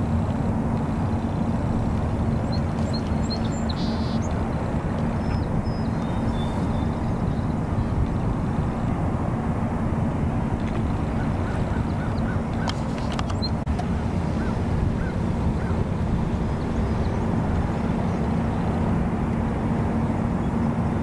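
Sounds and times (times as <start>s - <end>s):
low rumble with hum: 0.0s - 21.0s.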